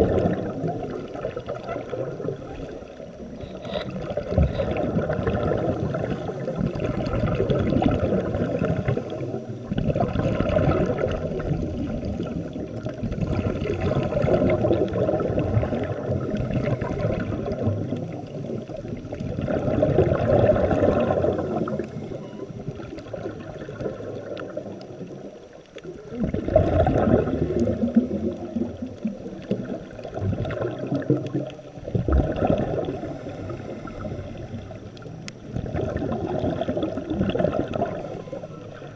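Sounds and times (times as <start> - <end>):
regulator bubbling underwater: 0.0 - 38.9.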